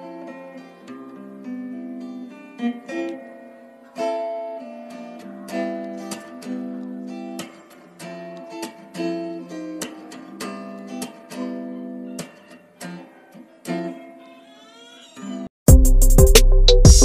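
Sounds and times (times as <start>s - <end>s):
acoustic guitar strummed and plucked: 0.0s - 17.0s.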